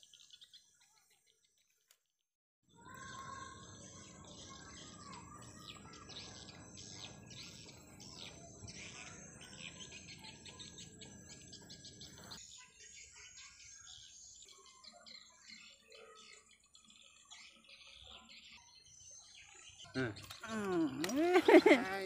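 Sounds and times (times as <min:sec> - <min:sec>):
small birds chirping: 0:00.0 - 0:02.0, 0:02.7 - 0:22.0.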